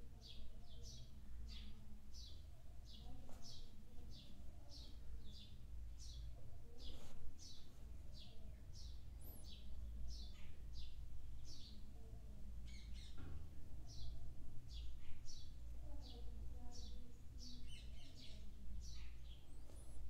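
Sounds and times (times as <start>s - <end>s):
small bird chirping: 0.1s - 20.0s.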